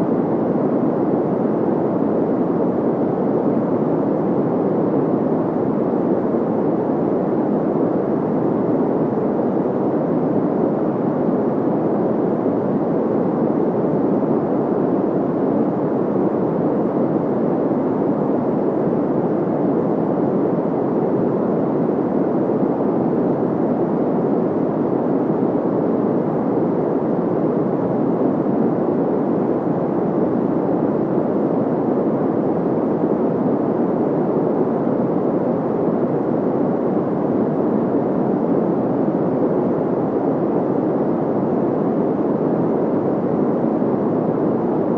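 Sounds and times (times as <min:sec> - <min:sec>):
muffled white noise hiss: 0:00.0 - 0:44.9.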